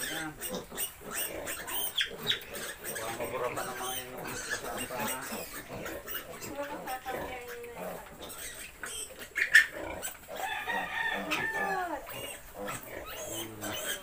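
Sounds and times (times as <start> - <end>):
piglet squealing: 0.0 - 14.0.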